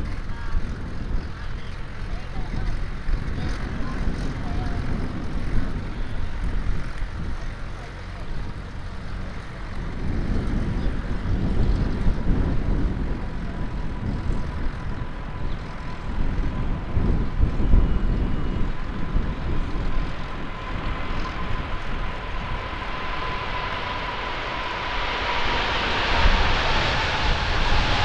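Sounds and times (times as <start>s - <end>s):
jet engine rumble: 0.0s - 28.0s
jet fan whine: 0.0s - 28.0s.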